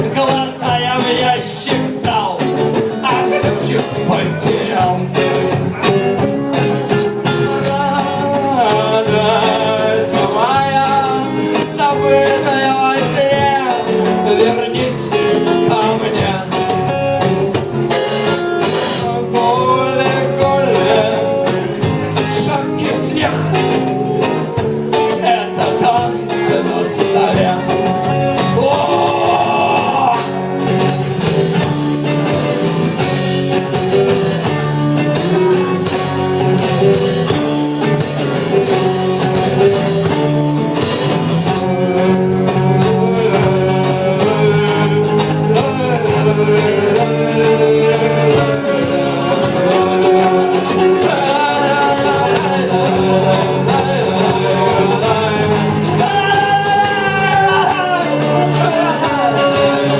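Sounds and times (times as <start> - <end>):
band playing: 0.0 - 59.9.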